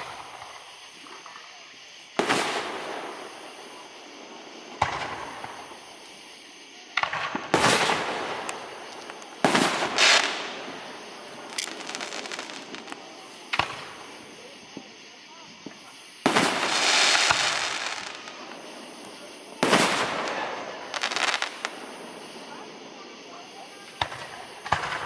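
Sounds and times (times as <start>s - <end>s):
fireworks bangs: 0.0s - 25.0s
fireworks crackling: 0.0s - 25.0s.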